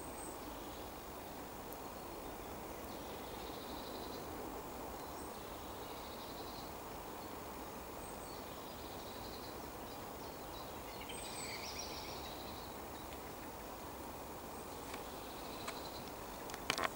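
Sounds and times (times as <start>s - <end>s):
songbirds singing: 0.0s - 16.9s
steady background hiss: 0.0s - 16.9s.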